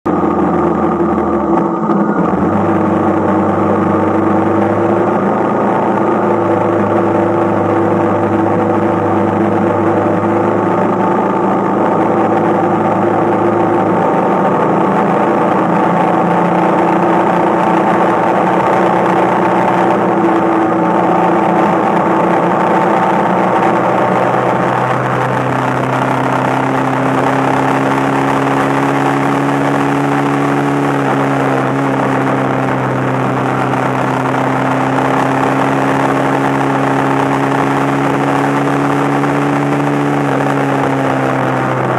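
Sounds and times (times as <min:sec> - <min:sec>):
rushing wind and road noise: 0:00.0 - 0:41.9
motorcycle engine cruising: 0:00.1 - 0:41.9.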